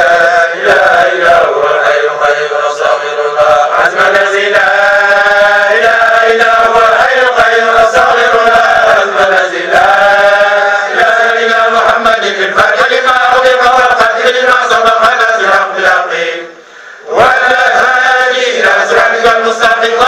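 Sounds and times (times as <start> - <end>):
men chanting together: 0.0 - 20.0.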